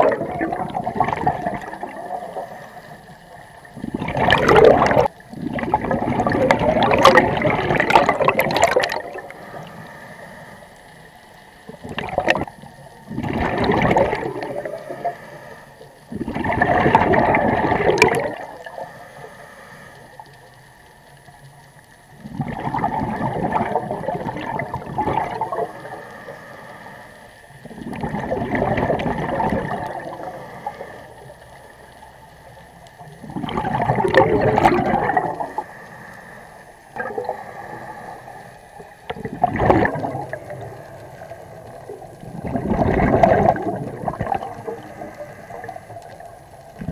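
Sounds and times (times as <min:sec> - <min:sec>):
gurgling regulator bubbles underwater: 0:00.0 - 0:46.9.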